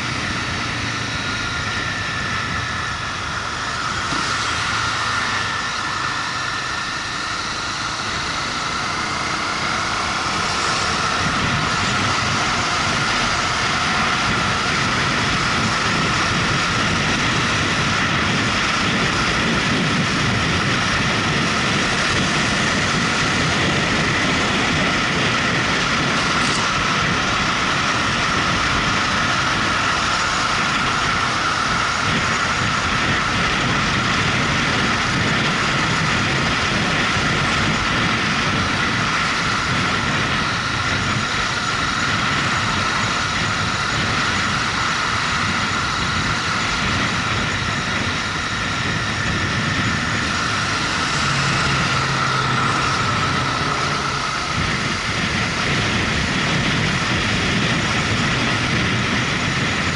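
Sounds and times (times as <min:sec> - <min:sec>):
motorcycle engine: 0:00.0 - 0:59.9
wind noise on microphone: 0:00.0 - 0:59.9.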